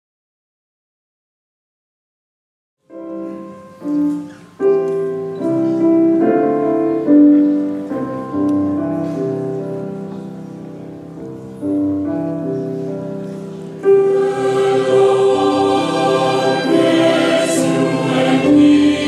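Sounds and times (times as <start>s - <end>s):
piano playing slow chords: 2.8s - 19.0s.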